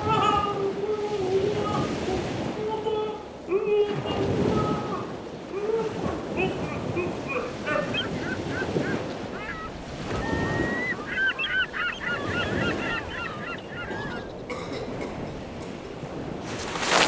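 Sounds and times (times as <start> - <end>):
seagulls calling: 0.0 - 5.1, 5.8 - 15.7
sea waves washing: 0.0 - 17.0.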